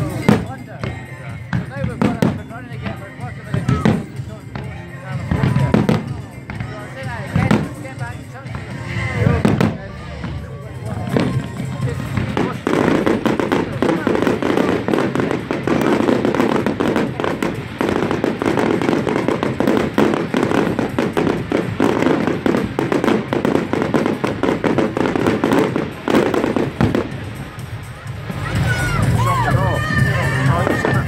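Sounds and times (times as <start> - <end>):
fireworks bursting and crackling: 0.0 - 31.0.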